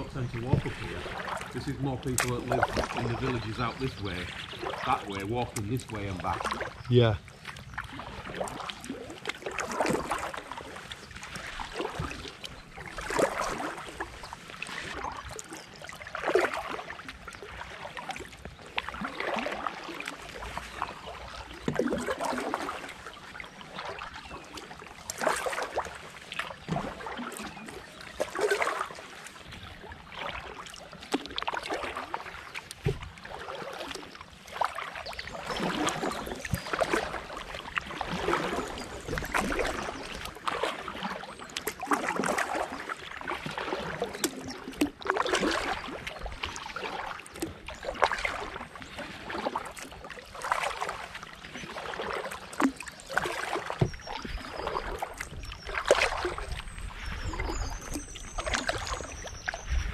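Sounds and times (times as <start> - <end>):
paddle splashing in water: 0.0 - 59.9.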